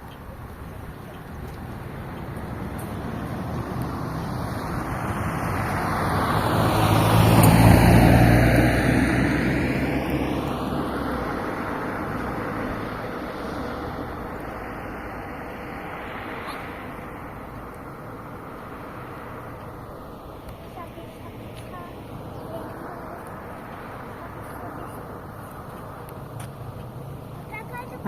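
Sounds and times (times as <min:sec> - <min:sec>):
vehicle driving past: 0:01.6 - 0:28.0.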